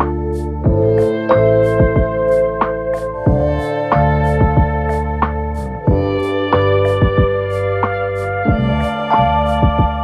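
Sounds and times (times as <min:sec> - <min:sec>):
soft plucked guitar music: 0:00.0 - 0:10.0.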